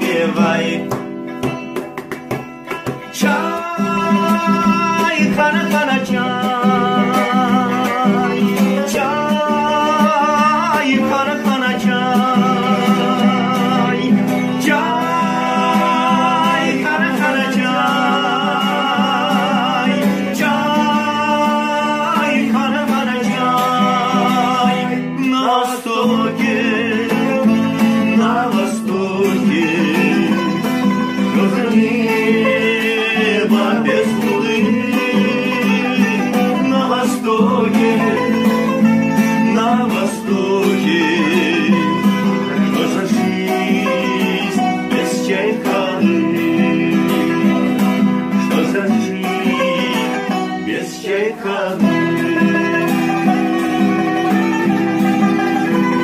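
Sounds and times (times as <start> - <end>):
plucked guitar music: 0.0 - 56.0.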